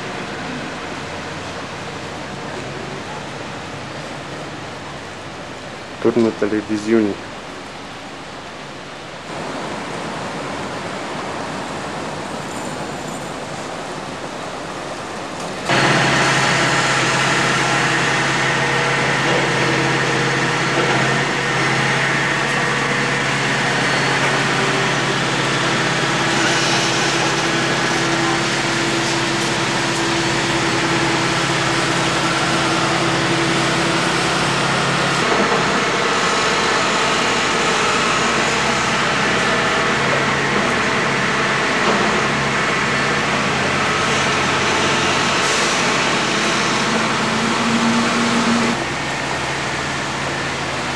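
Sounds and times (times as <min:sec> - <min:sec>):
city traffic noise: 0:00.0 - 0:50.9.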